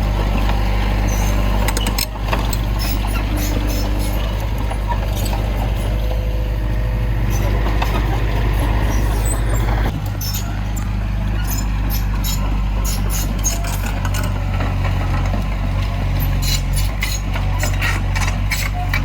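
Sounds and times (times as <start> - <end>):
diesel engine of heavy machinery: 0.0 - 19.0.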